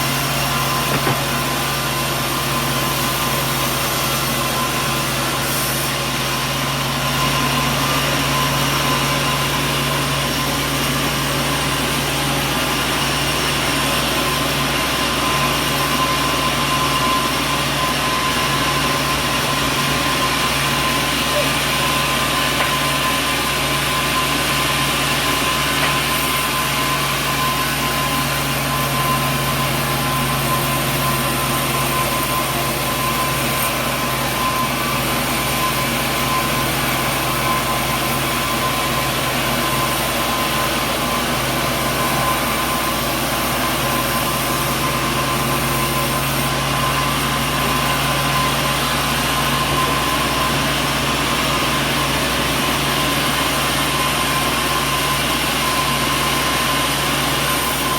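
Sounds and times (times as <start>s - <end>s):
sawmill machinery drone: 0.0s - 57.9s.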